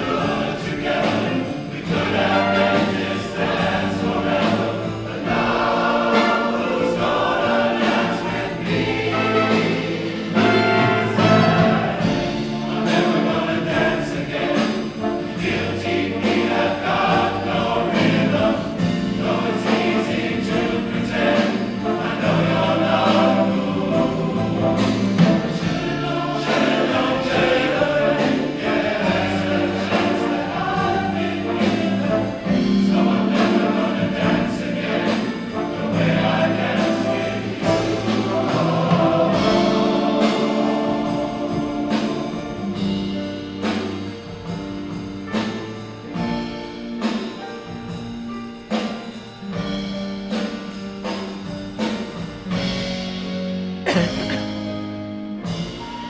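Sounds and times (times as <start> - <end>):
men's chorus singing in harmony: 0.0 - 46.4.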